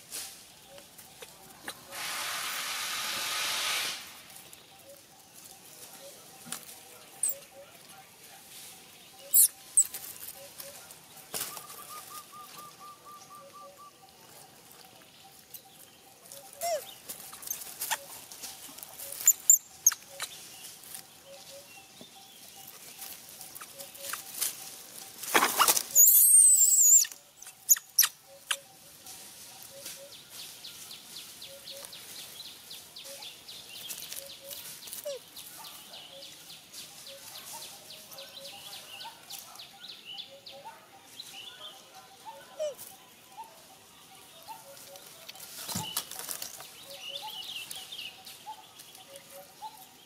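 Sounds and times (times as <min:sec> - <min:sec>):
rustling dry leaves: 0:00.0 - 0:39.8, 0:41.0 - 0:50.0.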